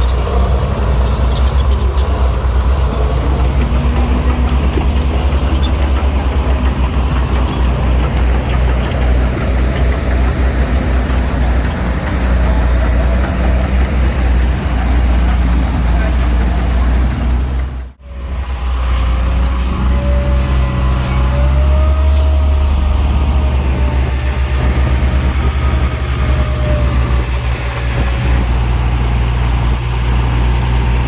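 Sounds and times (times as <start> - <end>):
diesel machinery engine drone: 0.0 - 31.0.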